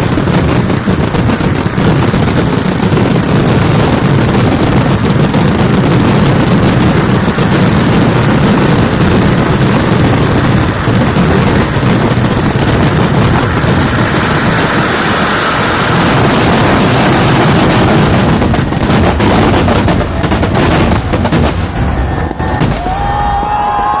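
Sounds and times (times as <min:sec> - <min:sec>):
firecrackers going off: 0:00.0 - 0:24.0.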